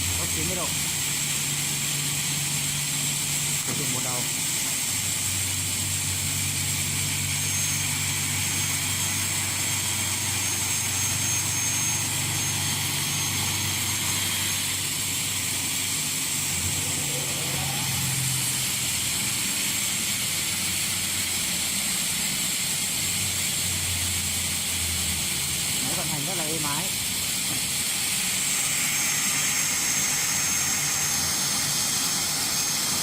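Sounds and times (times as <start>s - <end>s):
cutting saw motor hum and hiss: 0.0s - 33.0s.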